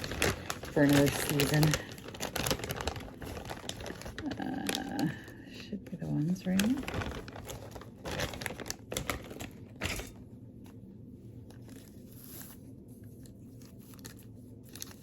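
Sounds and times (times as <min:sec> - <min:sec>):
rustling and crinkling materials: 0:00.0 - 0:15.0.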